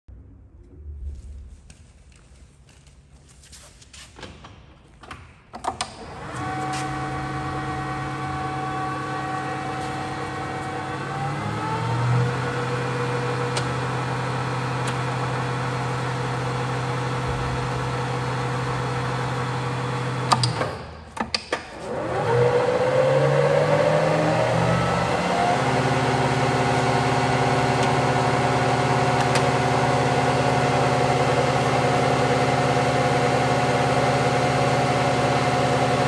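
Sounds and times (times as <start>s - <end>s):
lathe motor humming and whining: 6.0s - 20.8s, 21.8s - 36.0s.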